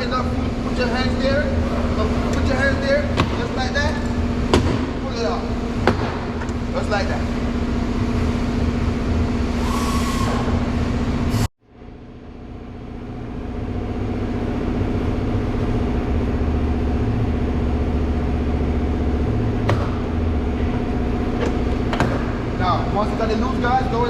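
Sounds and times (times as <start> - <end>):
low mechanical hum: 0.0 - 24.0
steady droning tone: 0.0 - 24.0.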